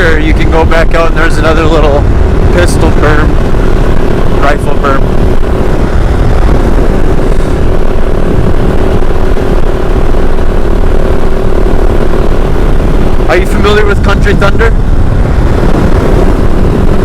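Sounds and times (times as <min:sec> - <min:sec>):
motorcycle engine running: 0:00.0 - 0:17.0
wind rushing on microphone: 0:00.0 - 0:17.0.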